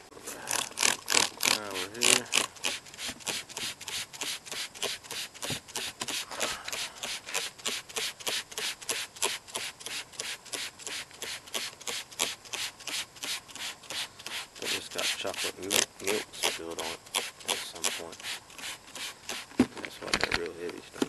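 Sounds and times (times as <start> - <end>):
spray bottle hissing sprays: 1.6 - 19.5.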